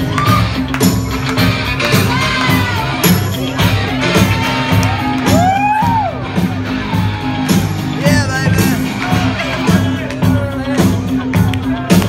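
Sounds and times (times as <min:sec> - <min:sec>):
loud amplified pop music: 0:00.0 - 0:12.0.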